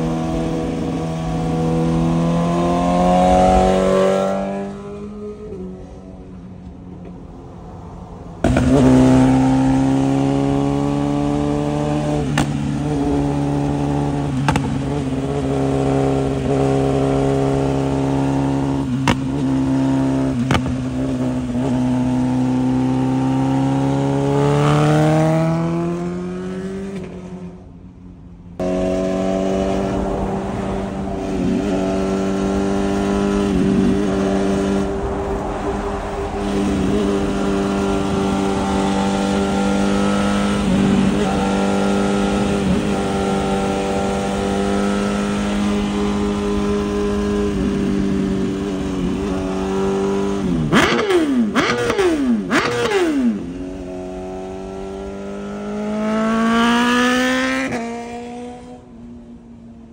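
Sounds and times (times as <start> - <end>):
motorcycle engine revving: 0.0 - 6.6, 8.4 - 27.9, 28.6 - 59.3.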